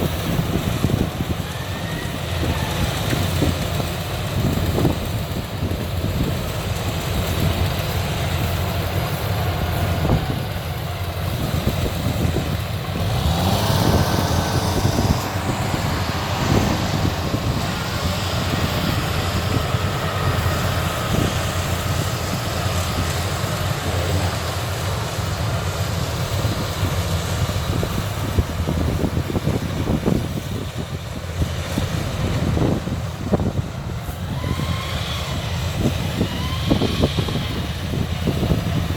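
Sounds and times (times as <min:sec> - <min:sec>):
harvester engine drone: 0:00.0 - 0:38.9.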